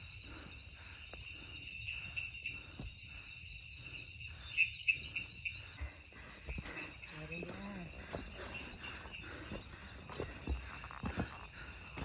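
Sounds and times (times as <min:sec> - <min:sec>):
footsteps on forest trail: 0:00.0 - 0:12.0
insects chirping: 0:00.0 - 0:12.0.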